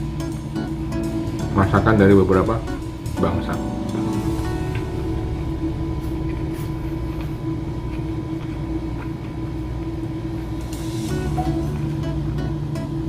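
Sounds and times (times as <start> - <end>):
even drone: 0.0 - 13.0
ship engines rumbling: 0.0 - 13.0.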